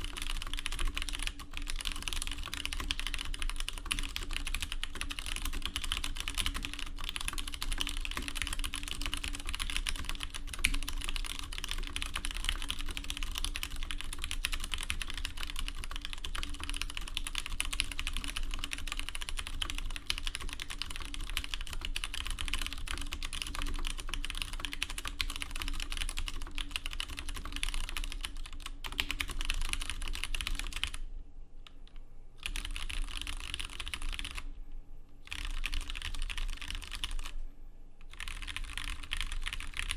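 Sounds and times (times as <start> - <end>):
typing on mechanical keyboard: 0.0 - 31.0, 32.4 - 34.5, 35.2 - 37.4, 38.1 - 39.9.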